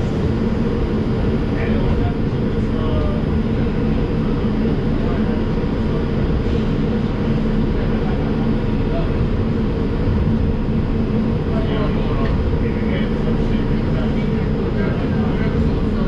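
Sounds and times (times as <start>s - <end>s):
low equipment hum: 0.0s - 16.0s
subway car rumbling hum: 0.0s - 16.0s.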